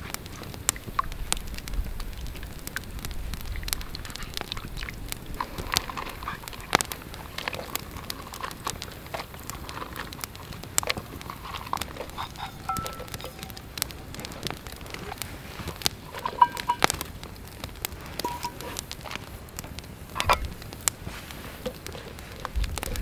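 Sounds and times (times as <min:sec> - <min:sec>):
campfire crackling: 0:00.0 - 0:23.0
low hiss: 0:00.0 - 0:23.0.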